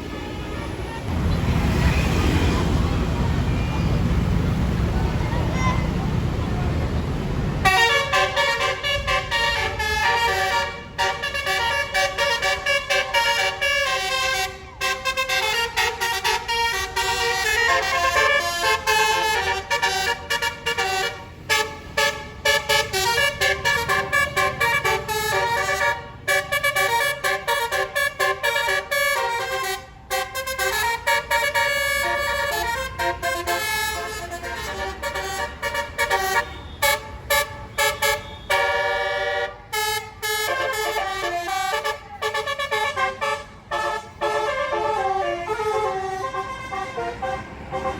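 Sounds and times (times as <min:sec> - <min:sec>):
musical air horn melody: 0:07.6 - 0:47.9.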